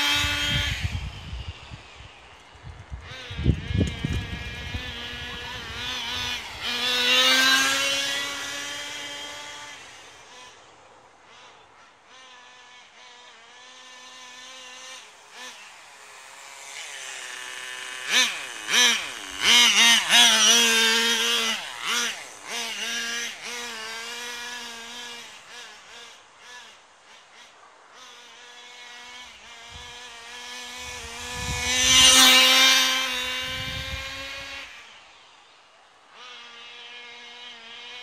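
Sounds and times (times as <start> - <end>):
small engine high buzzing whine: 0.0 - 38.0.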